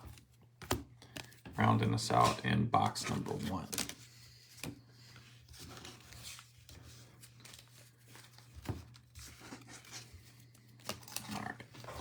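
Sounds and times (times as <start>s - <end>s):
cards and packaging rustling: 0.0s - 12.0s.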